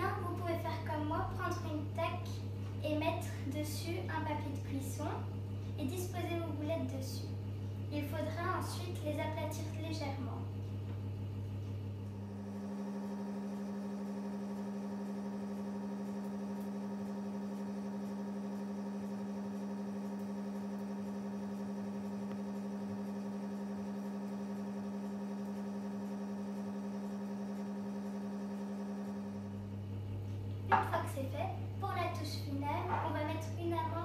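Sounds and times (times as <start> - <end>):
low electrical motor hum: 0.0 - 34.0.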